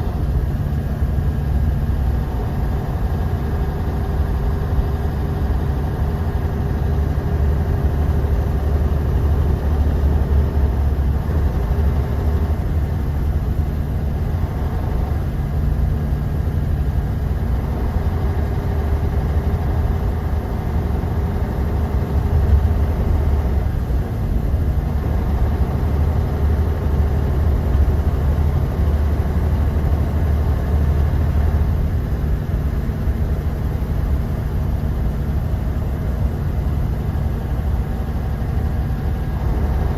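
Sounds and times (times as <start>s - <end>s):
bus engine rumble: 0.0s - 39.9s
road noise: 0.0s - 39.9s.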